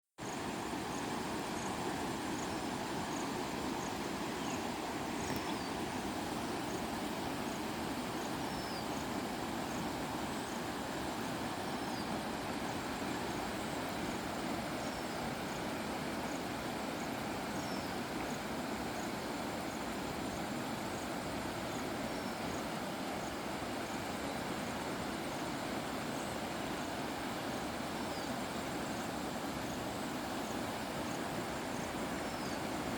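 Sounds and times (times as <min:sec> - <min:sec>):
river rushing: 0:00.2 - 0:32.9.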